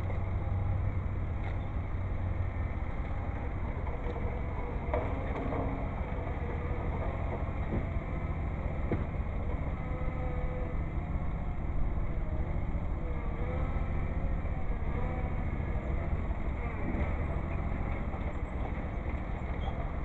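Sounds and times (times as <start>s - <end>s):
garden tractor engine running: 0.0s - 20.0s.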